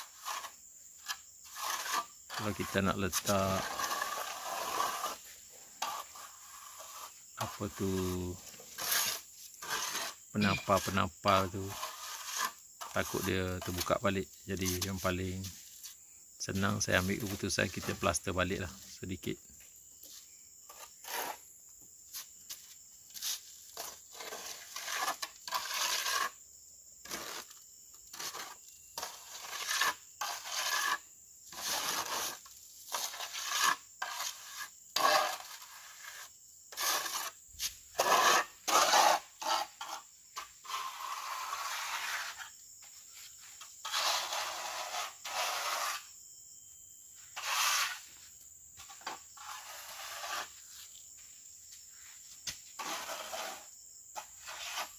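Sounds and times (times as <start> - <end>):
trowel scraping mortar on wall: 0.0 - 19.0, 20.0 - 21.5, 23.1 - 26.4, 27.0 - 46.2, 47.3 - 48.2, 48.8 - 50.9, 52.7 - 54.9.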